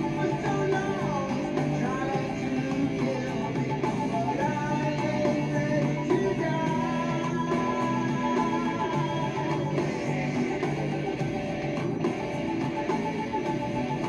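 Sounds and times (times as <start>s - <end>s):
rock song with full band: 0.0s - 14.0s.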